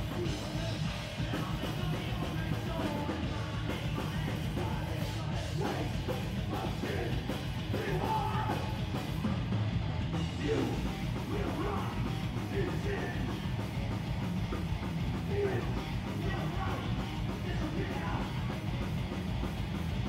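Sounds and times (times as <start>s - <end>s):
bass guitar: 0.0s - 20.0s
distorted electric guitar: 0.0s - 20.0s
drums: 0.0s - 20.0s.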